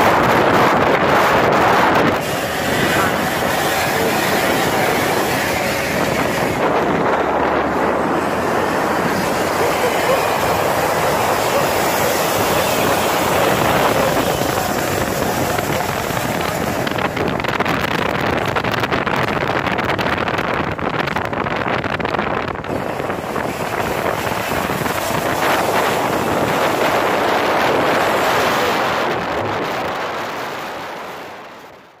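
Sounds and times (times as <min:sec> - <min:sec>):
heavy trucks driving past: 0:00.0 - 0:18.2, 0:22.6 - 0:32.0.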